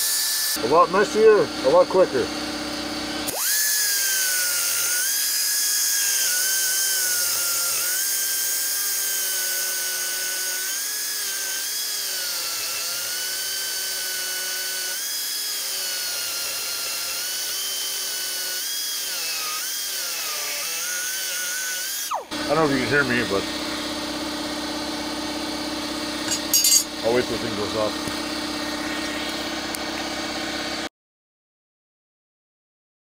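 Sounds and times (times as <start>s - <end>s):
die grinder whining on metal: 0.0s - 30.9s.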